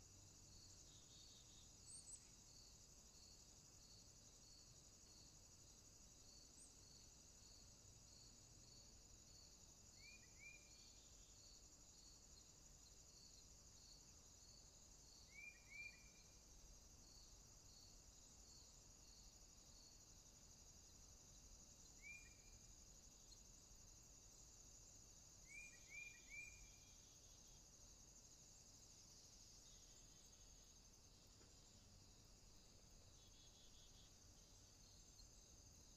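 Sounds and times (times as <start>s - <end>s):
pulsing insect chirp: 0.0s - 35.9s
short insect chirps: 0.0s - 35.9s.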